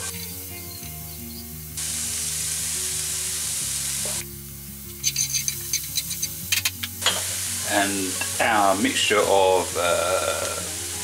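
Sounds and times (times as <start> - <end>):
peppers sizzling in a dry pan: 0.0 - 11.0.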